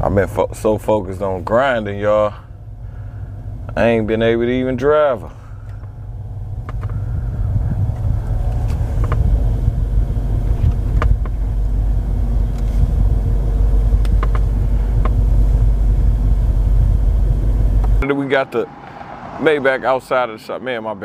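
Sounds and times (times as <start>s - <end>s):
car engine rumble: 0.0s - 21.0s.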